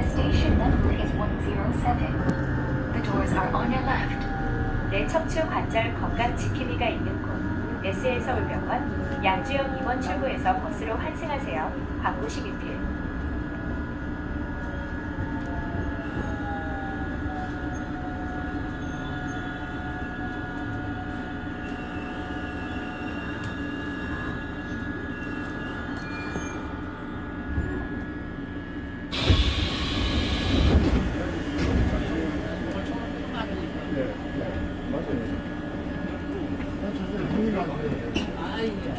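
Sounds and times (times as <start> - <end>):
electric train rumble and motor whine: 0.0 - 38.9.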